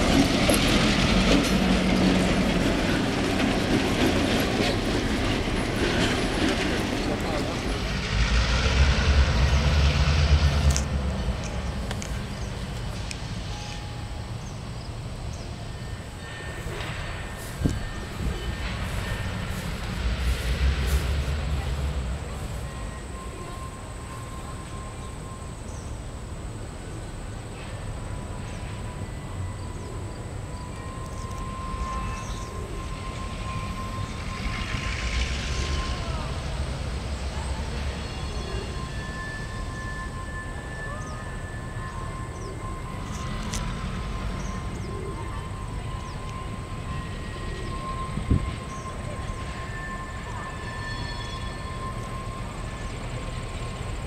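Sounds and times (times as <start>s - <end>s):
distant diesel locomotives rumbling: 0.0s - 54.0s
thin steady whine: 7.1s - 54.0s.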